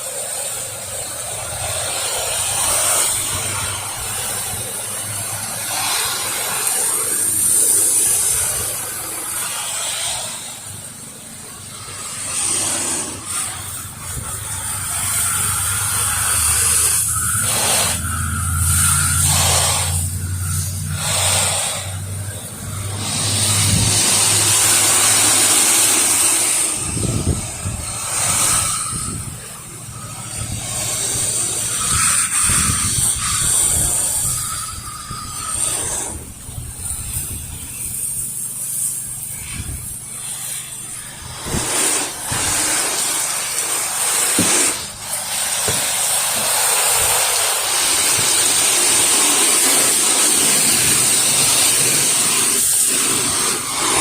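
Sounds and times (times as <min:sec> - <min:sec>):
pressure washer engine hum: 0:00.0 - 0:54.0
water spray hissing: 0:00.0 - 0:54.0.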